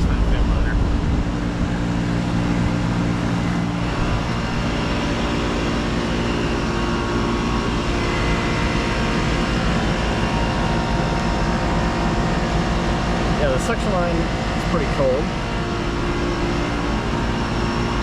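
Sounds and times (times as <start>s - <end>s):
compressor humming: 0.0s - 18.0s
condenser fan blowing: 0.0s - 18.0s.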